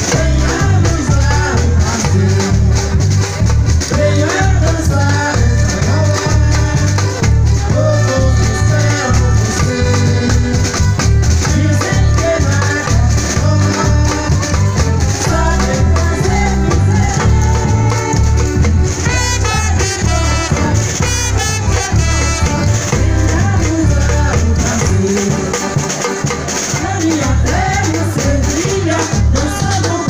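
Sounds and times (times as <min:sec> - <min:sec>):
steady drum beat: 0:00.0 - 0:30.0
voices singing: 0:00.0 - 0:30.0.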